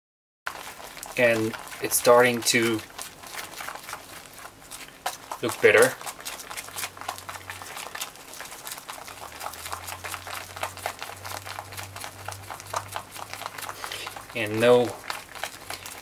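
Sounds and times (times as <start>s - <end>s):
chopsticks stirring sticky beans: 0.5s - 16.0s.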